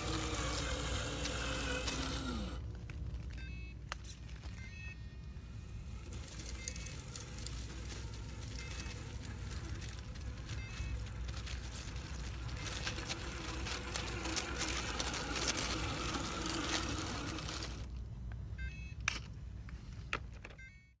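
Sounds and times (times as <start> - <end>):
tyres crackling on stones: 0.0 - 4.7, 5.5 - 18.1
electric motor and gear whine: 0.0 - 18.0.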